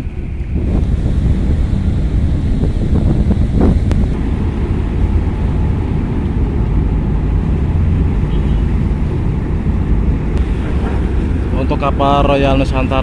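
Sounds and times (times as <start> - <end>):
churned water wash: 0.0 - 13.0
ship engine drone: 0.0 - 13.0.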